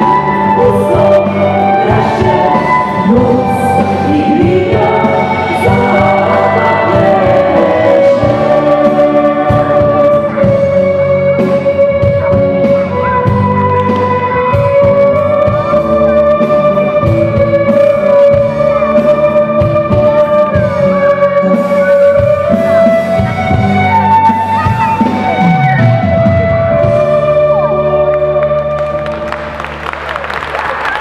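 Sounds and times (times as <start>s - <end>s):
band playing a carol: 0.0s - 30.0s
guitar: 0.0s - 31.0s.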